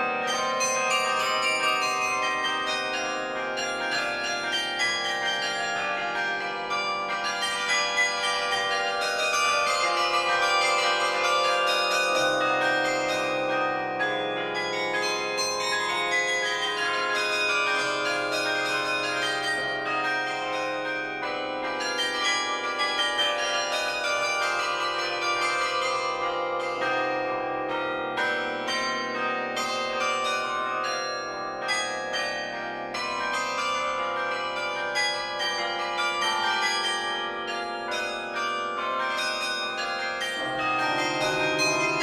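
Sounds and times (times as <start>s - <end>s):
carillon bells playing a tune: 0.0s - 42.0s.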